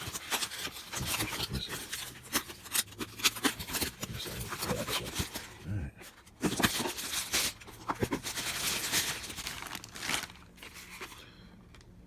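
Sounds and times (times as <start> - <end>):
packaging rustling and crinkling: 0.0 - 11.9.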